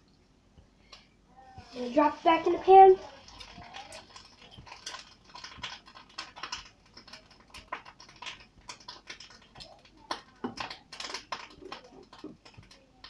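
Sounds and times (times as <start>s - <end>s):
egg frying crackling fat: 1.6s - 13.0s.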